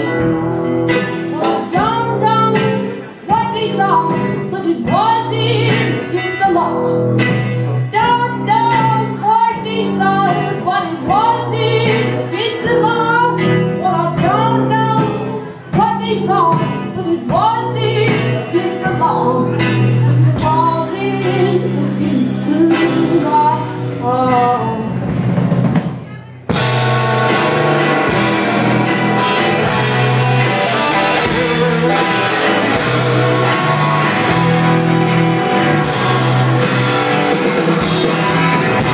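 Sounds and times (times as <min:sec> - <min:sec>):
woman singing: 0:00.0 - 0:25.1, 0:27.3 - 0:34.8, 0:35.5 - 0:38.9
drums: 0:00.0 - 0:38.9
electric guitar: 0:00.0 - 0:38.9
upright bass: 0:00.0 - 0:38.9.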